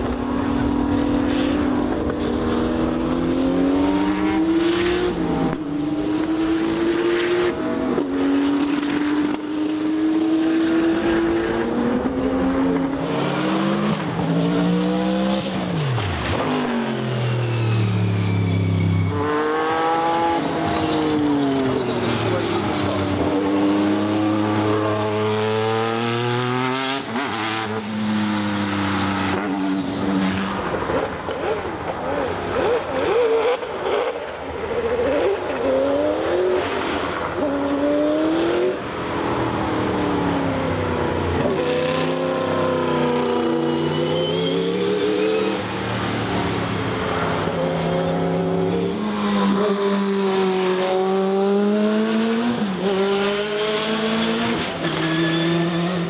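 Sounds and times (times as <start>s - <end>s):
race car engines at full throttle: 0.0s - 56.0s.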